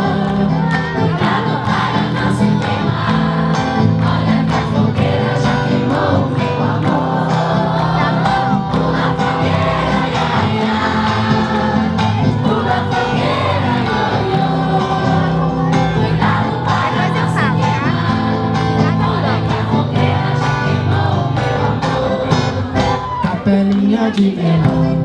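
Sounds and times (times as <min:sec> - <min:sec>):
crowd singing folk song in unison: 0:00.0 - 0:25.0.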